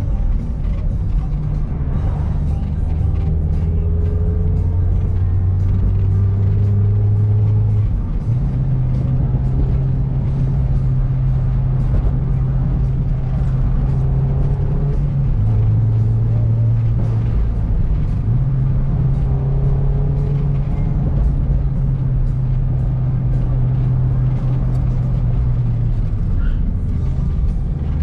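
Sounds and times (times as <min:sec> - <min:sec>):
car engine running: 0:00.0 - 0:28.0
road rumble: 0:00.0 - 0:28.0.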